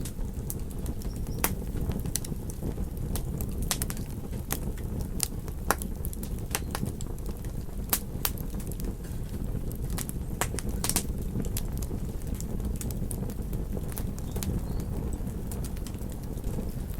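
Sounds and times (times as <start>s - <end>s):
sharp pops and snaps: 0.0s - 16.9s
wood fire crackling: 0.0s - 16.9s.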